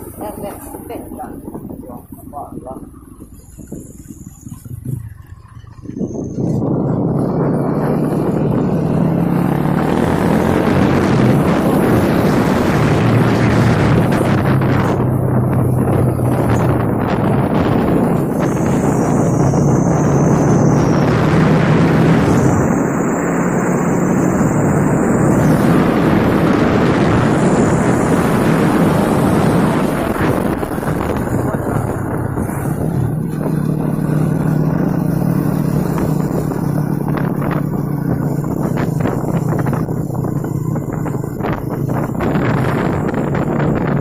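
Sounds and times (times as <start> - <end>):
truck engines humming: 0.0 - 44.0
loud rushing noise: 5.8 - 44.0.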